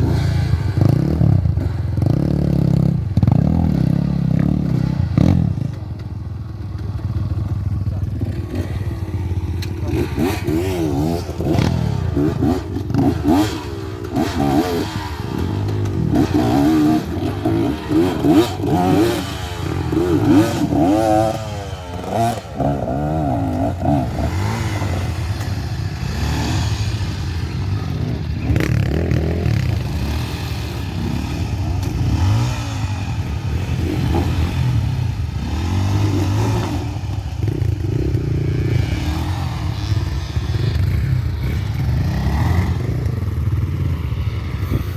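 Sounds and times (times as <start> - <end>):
dirt bike engine revving: 8.0 - 44.9.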